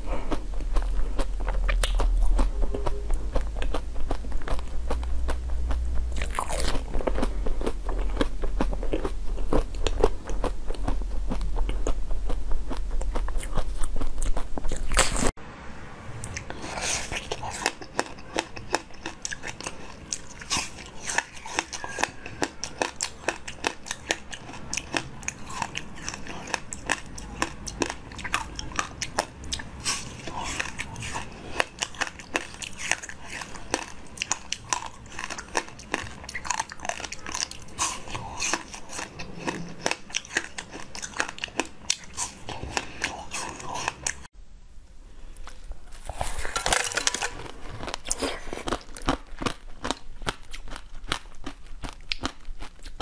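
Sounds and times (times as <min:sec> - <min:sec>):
chewing: 0:00.0 - 0:15.3, 0:16.2 - 0:44.3, 0:45.3 - 0:53.0.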